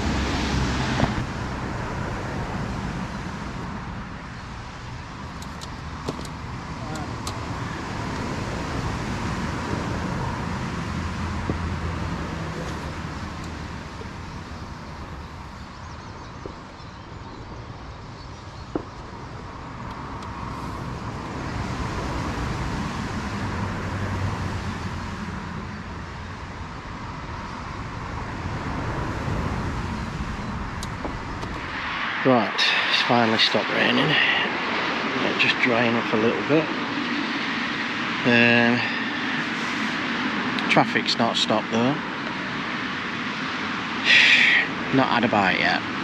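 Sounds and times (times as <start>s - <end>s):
road traffic: 0.0s - 46.0s
vehicles passing: 0.0s - 46.0s.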